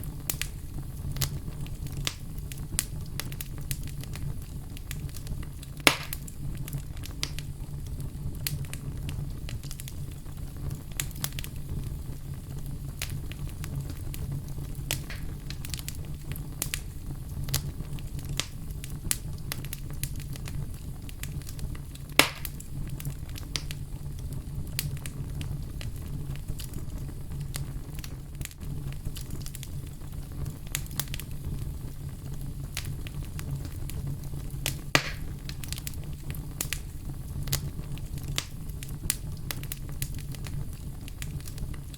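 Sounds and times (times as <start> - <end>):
fire crackling in a fireplace: 0.0 - 41.9
fire snapping and popping: 0.0 - 41.9.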